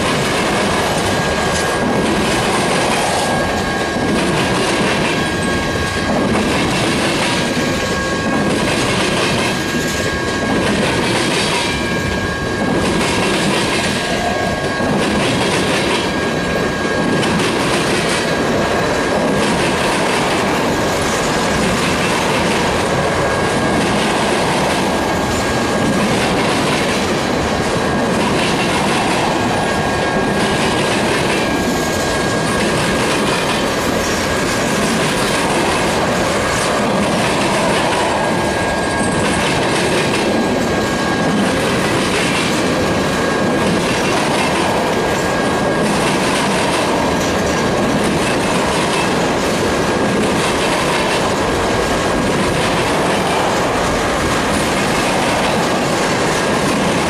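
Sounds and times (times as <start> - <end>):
steel wheels rumbling on rail: 0.0 - 57.0
wheels clacking over rail joints: 0.0 - 57.0.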